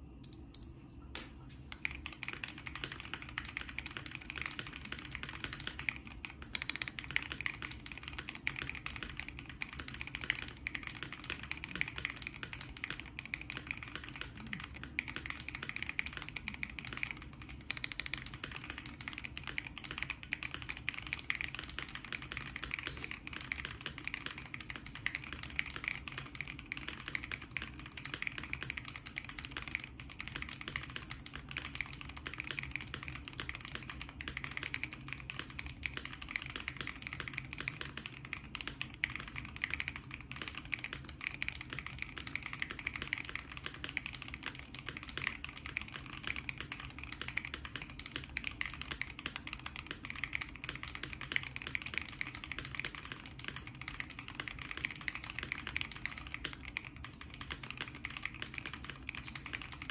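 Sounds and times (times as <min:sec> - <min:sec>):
fast mechanical keyboard typing: 0:01.7 - 0:59.9.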